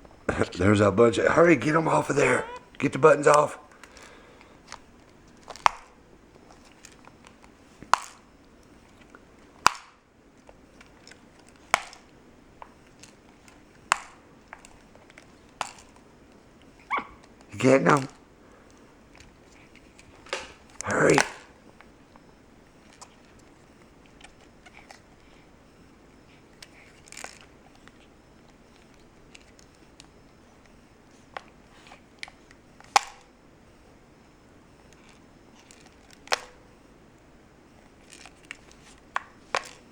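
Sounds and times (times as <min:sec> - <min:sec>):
plastic clicks and snaps: 0:02.4 - 0:25.4, 0:26.6 - 0:33.3, 0:34.9 - 0:39.9.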